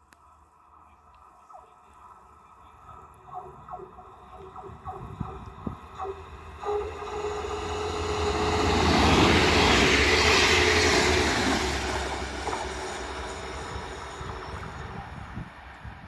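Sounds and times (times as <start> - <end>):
steady low hum: 0.4 - 15.6
train passing by: 2.0 - 16.0.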